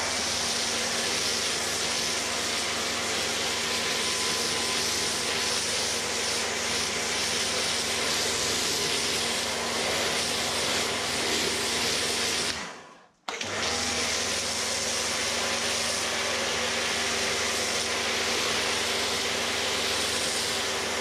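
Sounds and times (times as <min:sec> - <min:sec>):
pressure washer motor humming: 0:00.0 - 0:12.8, 0:13.4 - 0:21.0.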